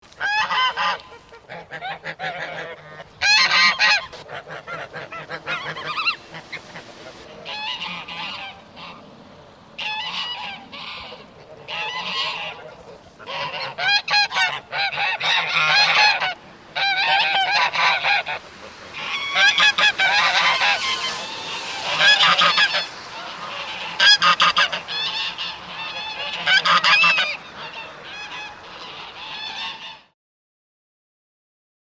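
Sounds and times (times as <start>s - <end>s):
geese honking and cackling: 0.1s - 30.2s.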